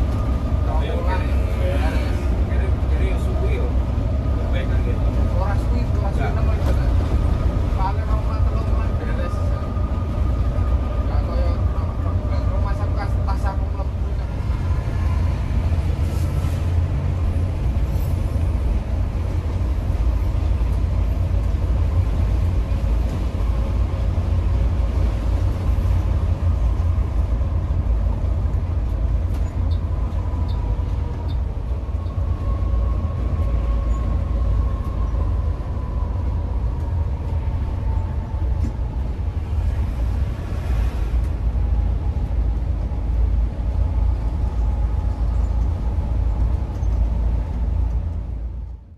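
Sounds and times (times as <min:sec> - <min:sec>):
diesel engine and road rumble: 0:00.0 - 0:48.9.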